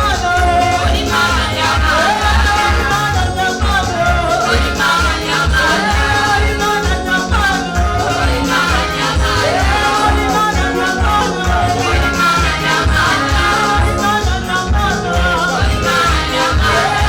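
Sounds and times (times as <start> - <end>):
band playing gospel music: 0.0 - 17.0
driving bass beat: 0.0 - 17.0
person singing: 0.0 - 17.0.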